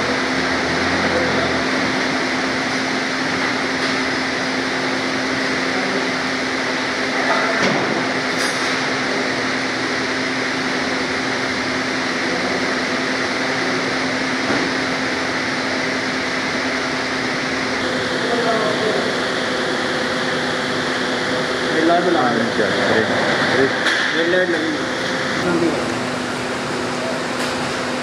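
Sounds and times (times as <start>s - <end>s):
mechanical hum and hiss: 0.0s - 28.0s.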